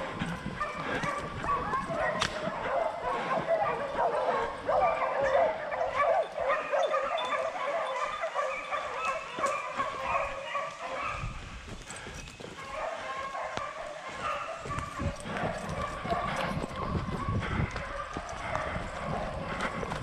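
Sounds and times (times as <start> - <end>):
dogs baying and yelping: 0.0 - 20.0.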